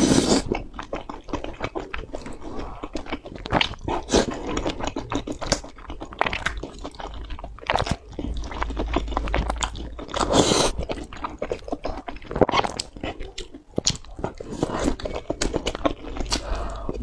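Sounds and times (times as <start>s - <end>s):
wet chewing of noodles: 0.0s - 17.0s.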